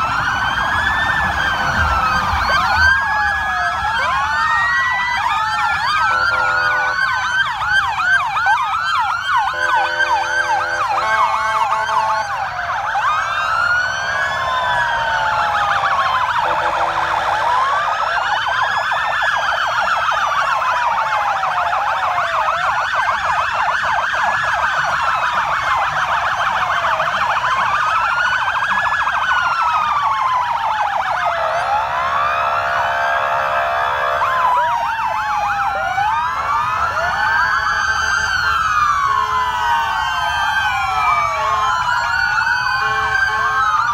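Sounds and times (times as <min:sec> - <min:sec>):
horn-like siren blasts: 0:00.0 - 0:28.8, 0:29.5 - 0:43.9
police sirens wailing: 0:00.0 - 0:43.9.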